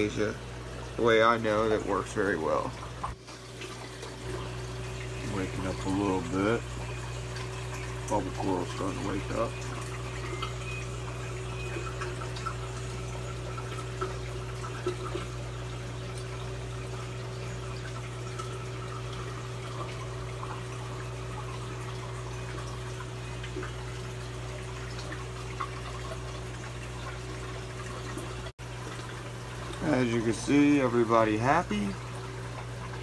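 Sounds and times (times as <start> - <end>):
aquarium pump hum: 0.0 - 33.0
water flowing: 0.0 - 33.0.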